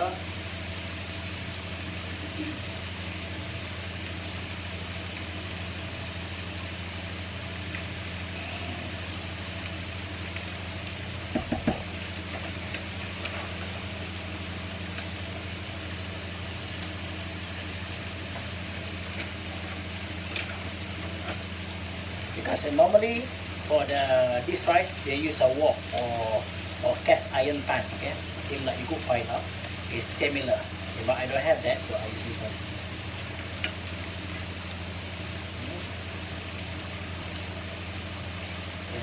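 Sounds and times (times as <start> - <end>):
prawns sizzling in oil: 0.0 - 39.0.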